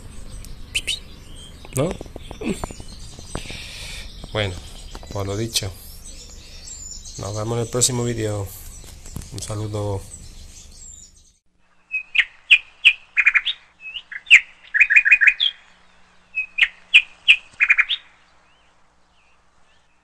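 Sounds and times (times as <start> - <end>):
small songbird chirping: 0.0 - 20.0.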